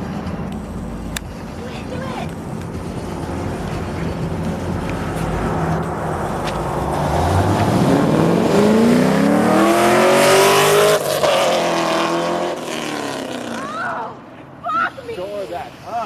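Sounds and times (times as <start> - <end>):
car engine revving: 0.0 - 14.4.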